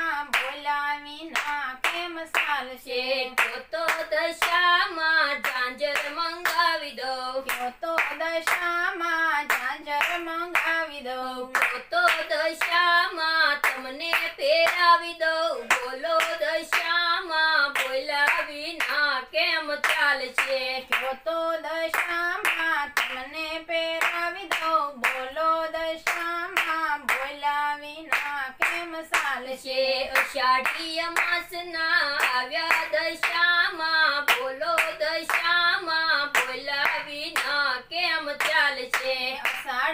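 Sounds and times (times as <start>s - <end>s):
hand-clapping: 0.0s - 39.9s
person singing devotional song: 0.0s - 39.9s.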